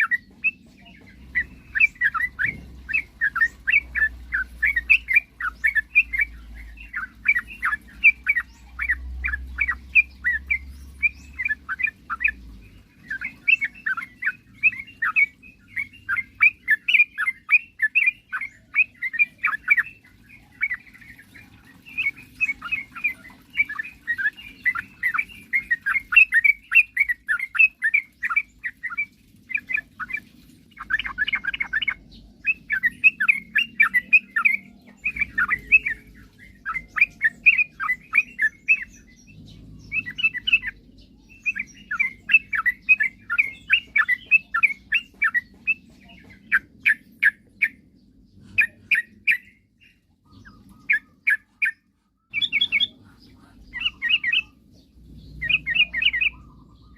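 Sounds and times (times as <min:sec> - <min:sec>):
birds chattering: 0:00.0 - 0:56.9.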